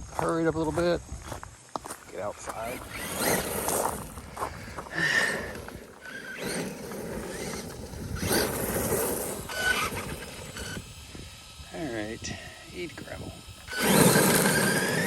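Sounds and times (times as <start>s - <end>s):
tyres crunching on gravel: 0.0s - 10.8s, 13.7s - 15.0s
electric toy truck motor whirring: 2.5s - 15.0s.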